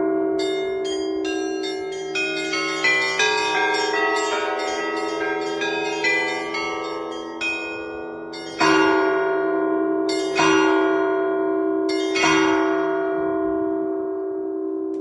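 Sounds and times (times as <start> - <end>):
large bell ringing: 0.0 - 15.0
small high church bells: 0.0 - 15.0.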